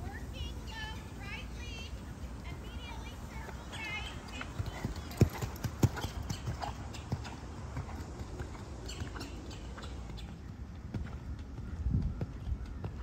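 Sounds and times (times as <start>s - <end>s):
hooves trotting on sand: 0.0s - 13.0s.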